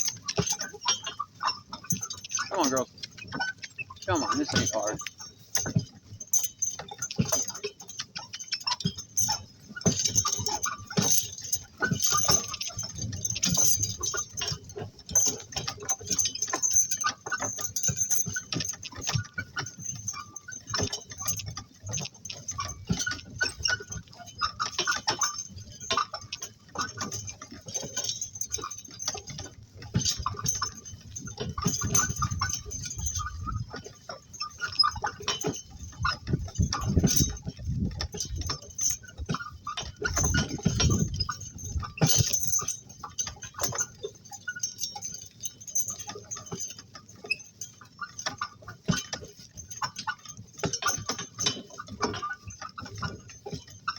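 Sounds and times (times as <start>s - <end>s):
cart rattling: 0.0s - 53.9s
harness jingling: 0.0s - 53.9s
hooves clattering: 0.0s - 53.9s.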